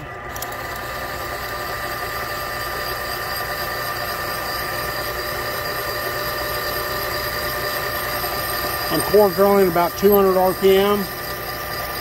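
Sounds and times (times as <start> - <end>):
machine whine over low hum: 0.0 - 12.0.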